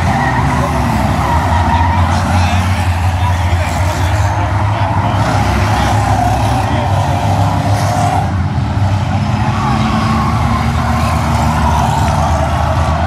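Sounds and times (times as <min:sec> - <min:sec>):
stock car engines racing: 0:00.0 - 0:13.0.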